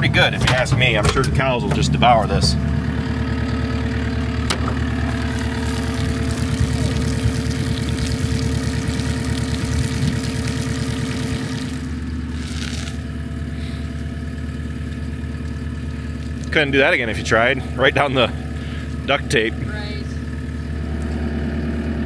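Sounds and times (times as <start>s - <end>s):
farm machine engine idling: 0.0s - 22.0s.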